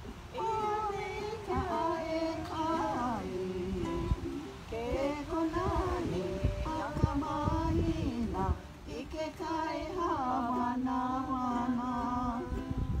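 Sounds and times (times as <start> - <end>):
guitar: 0.0 - 13.0
person singing: 0.0 - 13.0
ukulele: 0.0 - 13.0.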